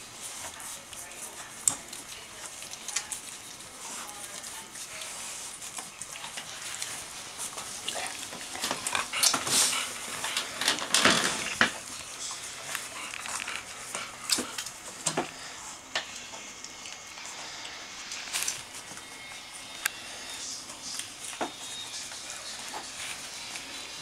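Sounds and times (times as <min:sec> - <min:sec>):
puppies suckling: 0:00.0 - 0:24.0.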